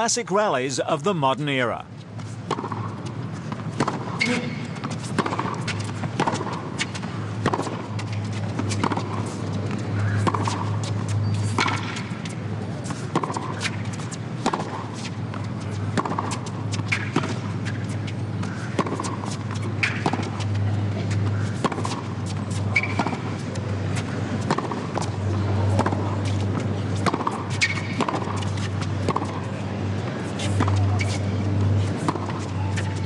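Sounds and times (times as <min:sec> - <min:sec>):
racquet hitting tennis ball: 0:02.4 - 0:33.0.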